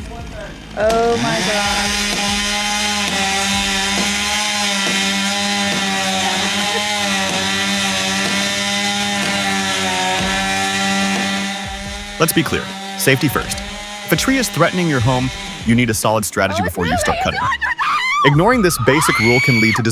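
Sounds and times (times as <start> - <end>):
chainsaw running at high revs: 0.0 - 17.4, 19.0 - 19.7.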